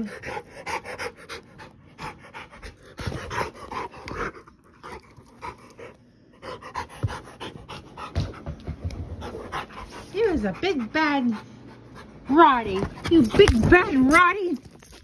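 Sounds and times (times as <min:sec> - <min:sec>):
dog panting: 0:00.0 - 0:13.6.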